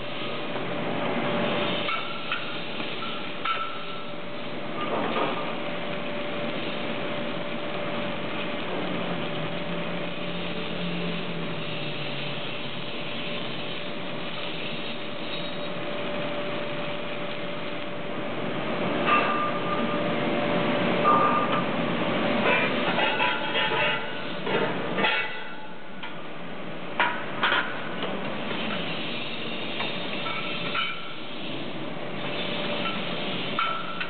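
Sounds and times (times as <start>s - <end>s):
arc welding hiss: 0.0s - 20.0s, 22.4s - 26.3s, 27.0s - 34.0s
constant hum: 0.0s - 34.0s.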